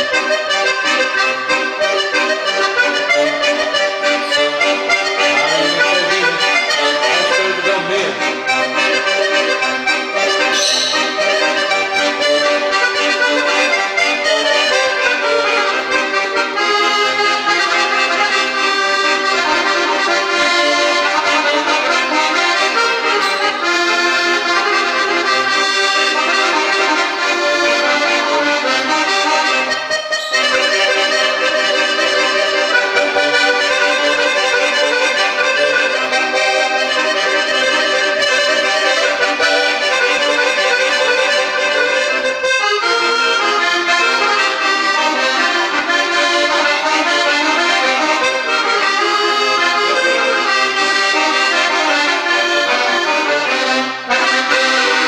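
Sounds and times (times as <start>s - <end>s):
piano accordion tune: 0.0s - 55.0s.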